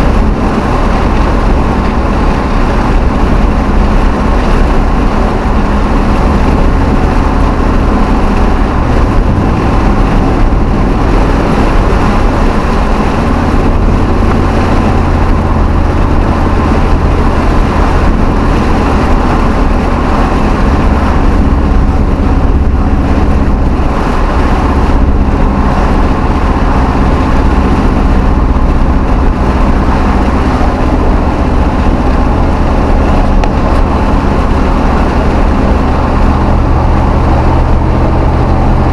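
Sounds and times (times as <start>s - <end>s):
pickup truck engine running: 0.0s - 38.9s.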